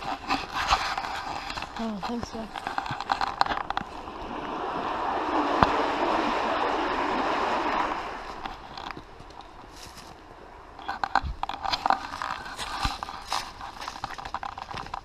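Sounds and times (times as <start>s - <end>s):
creek water rushing: 0.0s - 14.4s.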